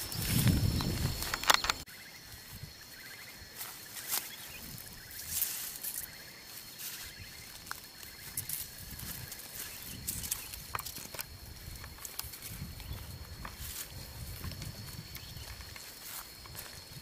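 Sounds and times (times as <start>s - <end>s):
insects chirping: 0.0s - 17.0s
rustling of brush and grass: 0.0s - 17.0s.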